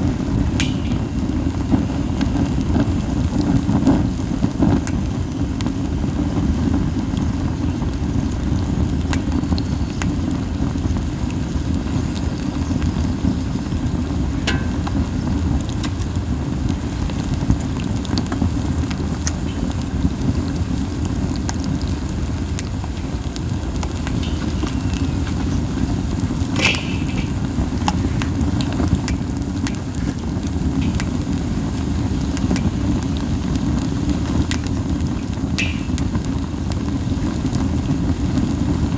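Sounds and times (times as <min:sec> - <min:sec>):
fire crackles and pops: 0:00.0 - 0:38.9
flames rumbling: 0:00.0 - 0:38.9
wind buffeting: 0:00.0 - 0:38.9.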